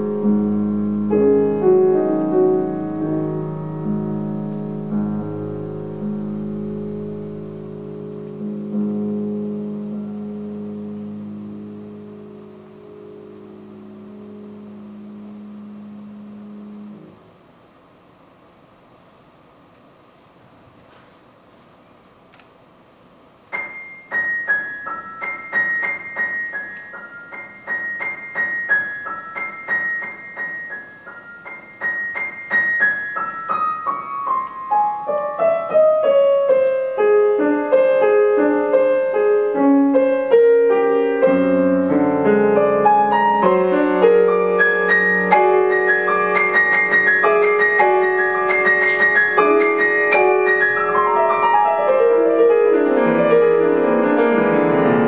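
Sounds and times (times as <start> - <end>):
solo piano piece: 0.0 - 17.9, 23.4 - 55.0.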